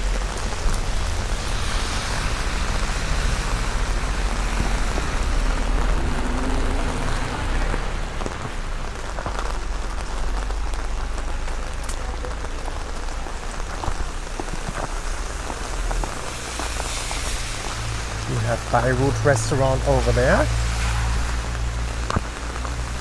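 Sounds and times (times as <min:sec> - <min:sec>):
heavy rain falling: 0:00.0 - 0:23.0
raindrops pattering on umbrella: 0:00.0 - 0:23.0.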